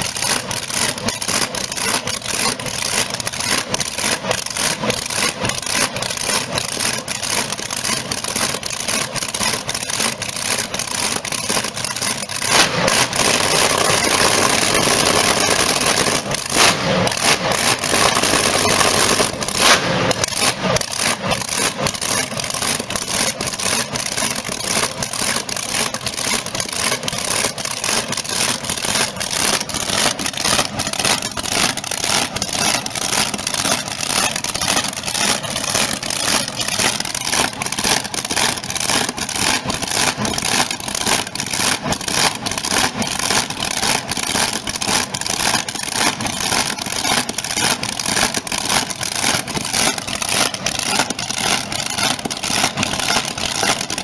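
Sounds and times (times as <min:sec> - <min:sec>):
boat engine exhaust pulses: 0:00.0 - 0:54.0.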